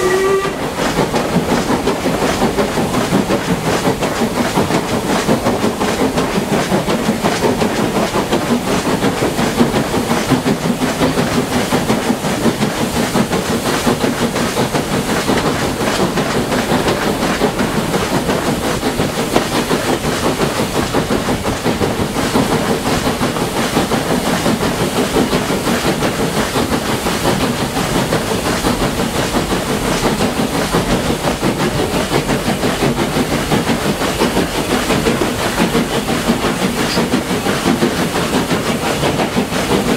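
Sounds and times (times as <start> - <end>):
steam locomotive chuffing: 0.0 - 39.9
train wheels clattering on rails: 0.0 - 39.9.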